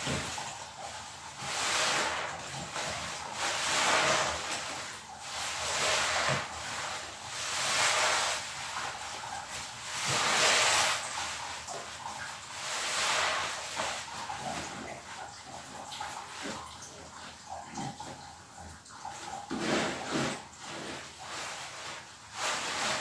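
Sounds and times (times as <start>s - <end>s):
soapy sponge squeezed: 0.0s - 23.0s.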